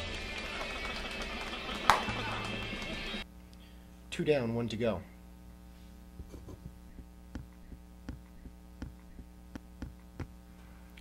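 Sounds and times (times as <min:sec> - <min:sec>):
steady electrical hum: 0:02.2 - 0:11.0.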